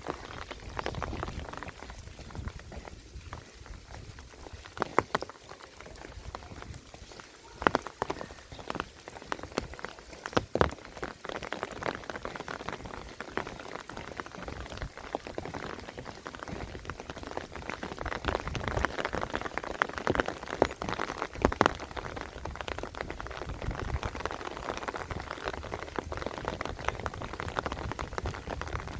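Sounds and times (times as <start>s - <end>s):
rain falling: 0.0s - 28.9s.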